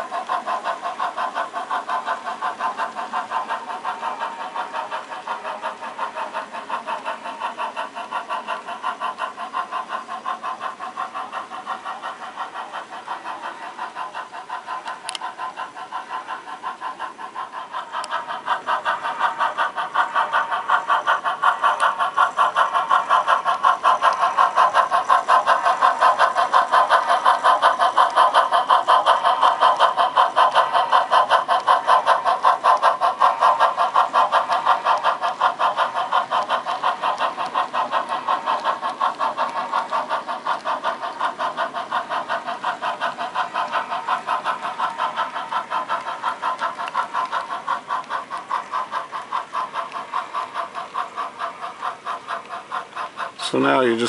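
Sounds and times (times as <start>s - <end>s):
model steam locomotive chuffing: 0.0s - 54.0s.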